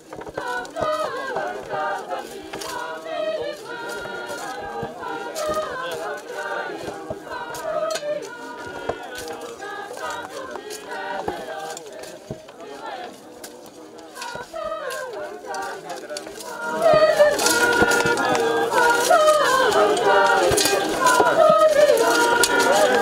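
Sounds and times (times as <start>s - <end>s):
choir singing unaccompanied: 0.0s - 23.0s
shovels knocking and scraping: 0.0s - 23.0s.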